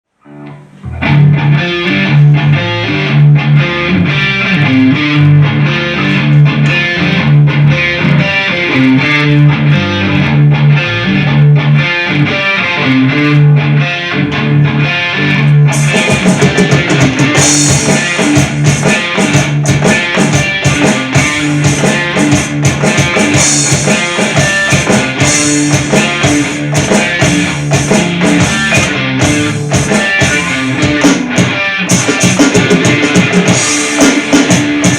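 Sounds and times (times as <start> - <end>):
bass riff: 0.1 - 34.9
electric guitar riff: 0.1 - 34.9
drums: 0.6 - 13.6, 14.2 - 34.9.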